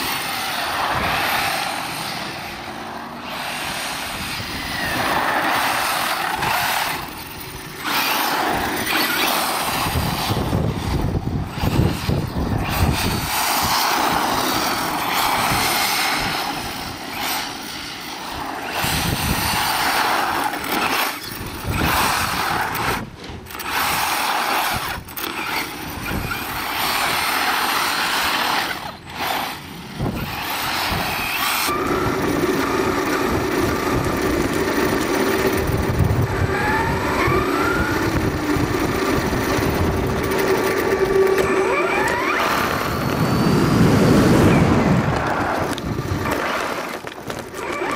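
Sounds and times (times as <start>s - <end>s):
rc truck motor and tyres: 0.0s - 47.9s.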